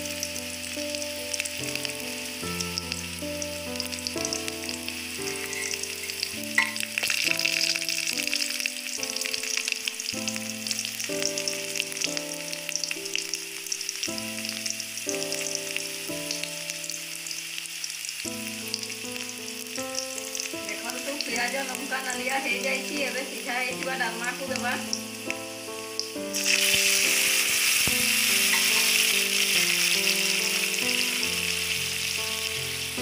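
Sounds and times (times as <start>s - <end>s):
onions sizzling in hot oil: 0.0s - 33.0s
soft background music: 0.0s - 33.0s.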